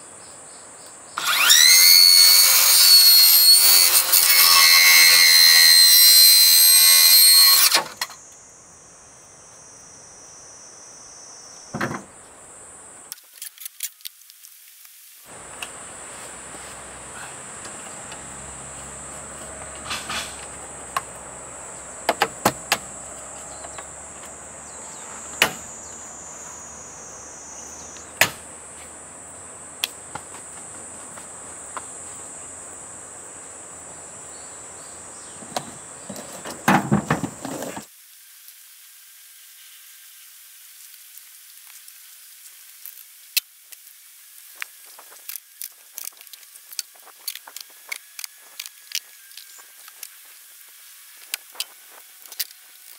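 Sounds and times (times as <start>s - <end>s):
high insect drone: 0.0s - 13.9s, 15.2s - 52.9s.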